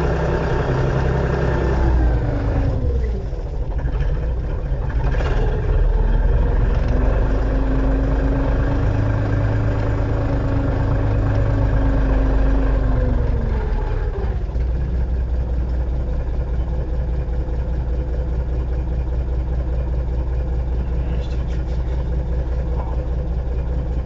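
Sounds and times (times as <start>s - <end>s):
tractor diesel engine revving and idling: 0.0s - 24.0s.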